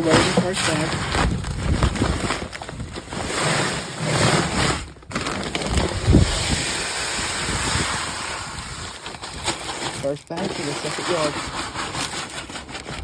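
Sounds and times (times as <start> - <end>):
granules pouring into hopper: 0.0 - 13.0.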